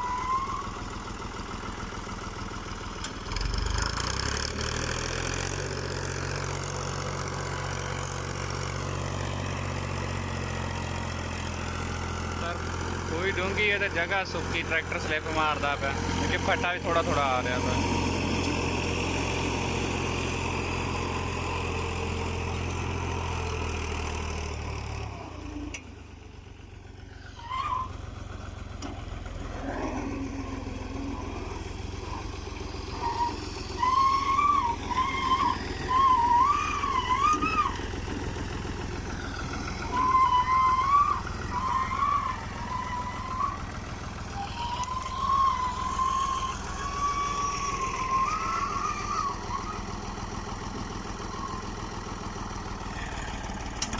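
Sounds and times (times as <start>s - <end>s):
faint engine hum: 0.0s - 53.9s
tractor diesel engine under load: 0.0s - 53.9s.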